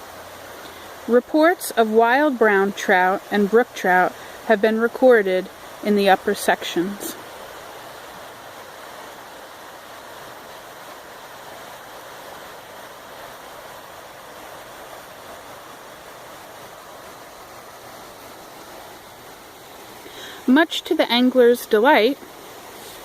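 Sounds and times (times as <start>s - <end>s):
creek water flowing: 0.0s - 23.0s.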